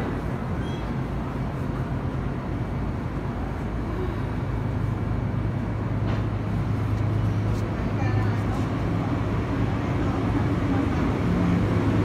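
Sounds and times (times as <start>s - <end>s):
train low hum: 0.0s - 12.0s
train rumble: 0.0s - 12.0s.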